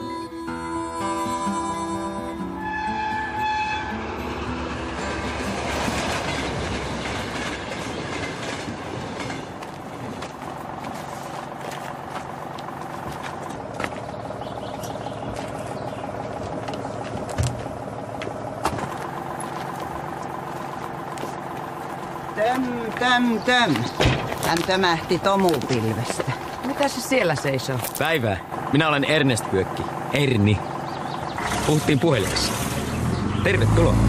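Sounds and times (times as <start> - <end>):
train rumbling on rails: 2.6 - 34.0.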